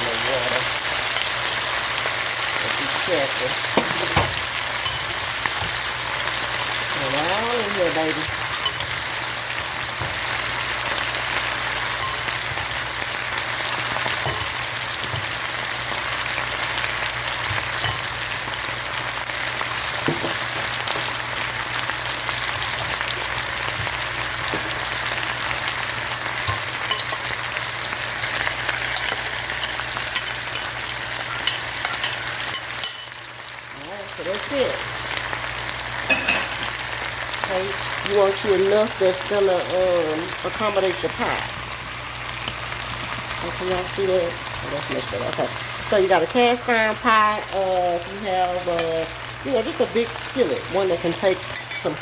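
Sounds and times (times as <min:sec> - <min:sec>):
potatoes frying in grease: 0:00.0 - 0:52.0.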